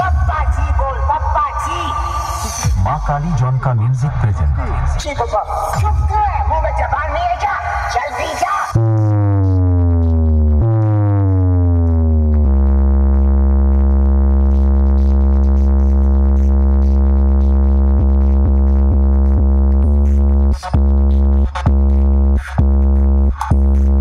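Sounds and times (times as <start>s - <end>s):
deep bass test tone: 0.0s - 7.2s, 8.7s - 24.0s.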